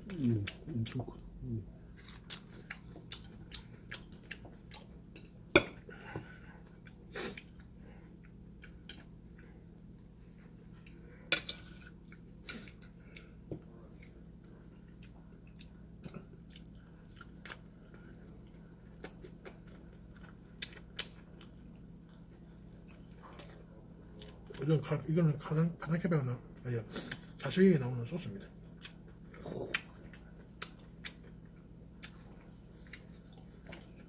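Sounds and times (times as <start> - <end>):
person chewing: 0.0 - 24.6, 28.6 - 34.0
low steady hum: 0.0 - 34.0.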